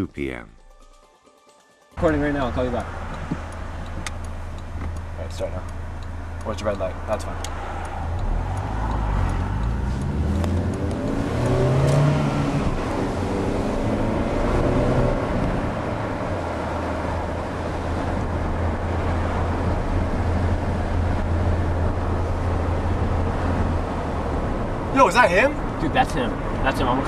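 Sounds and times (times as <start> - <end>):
car engine drone: 2.0 - 27.0
road noise inside car: 2.0 - 27.0.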